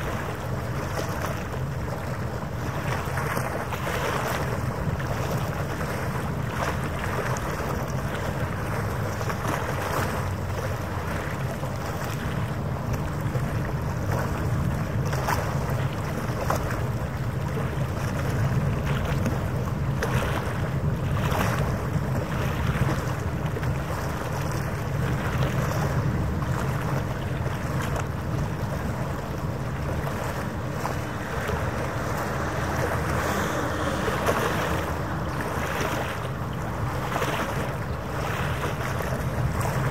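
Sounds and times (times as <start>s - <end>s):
boat engines humming: 0.0s - 39.9s
waves on water: 0.0s - 39.9s
wind buffeting microphone: 0.0s - 39.9s.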